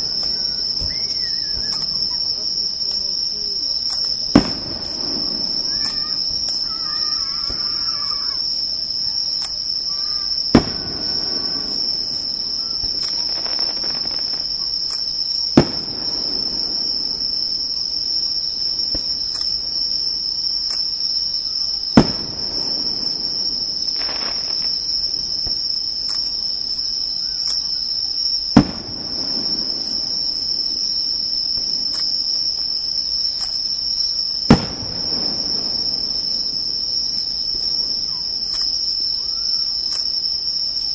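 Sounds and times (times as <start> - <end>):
fireworks bursting: 0.0 - 40.9
insects chirring: 0.0 - 40.9.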